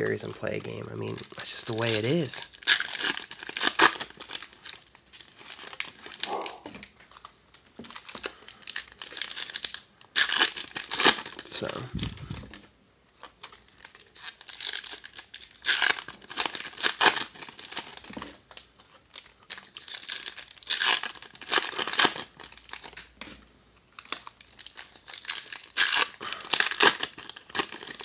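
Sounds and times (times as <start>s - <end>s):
foil wrappers tearing and crinkling: 0.0s - 6.5s, 7.5s - 23.2s, 23.8s - 28.0s.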